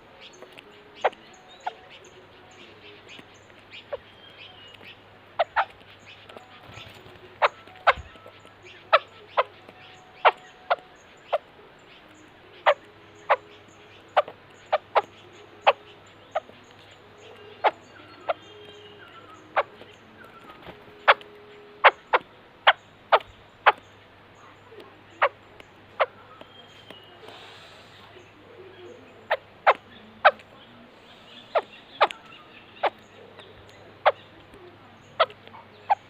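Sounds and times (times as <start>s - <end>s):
faint whistled bird notes: 0.0s - 34.4s.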